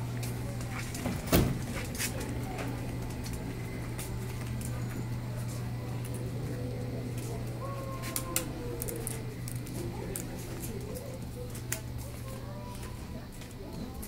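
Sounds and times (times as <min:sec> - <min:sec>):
faint background voices: 0:00.0 - 0:14.0
steady low hum: 0:00.0 - 0:14.0.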